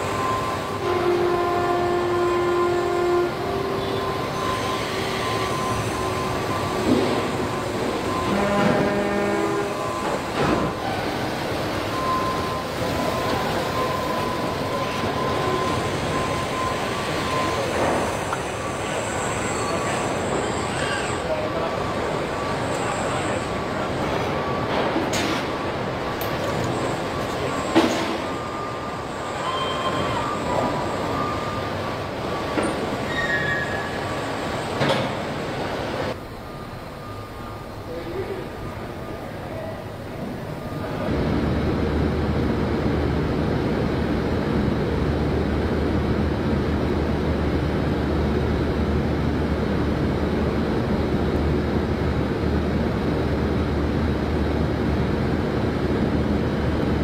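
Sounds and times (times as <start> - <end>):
conveyor hum: 0.0 - 57.0.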